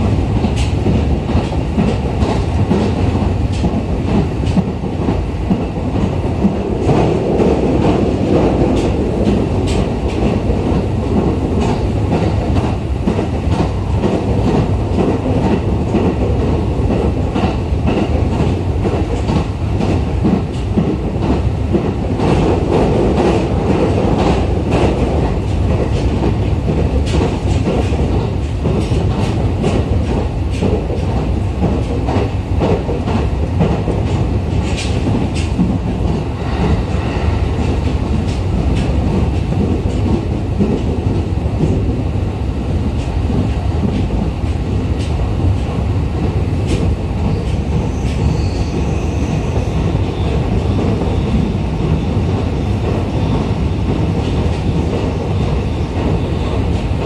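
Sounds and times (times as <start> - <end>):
train low rumble: 0.0 - 57.0.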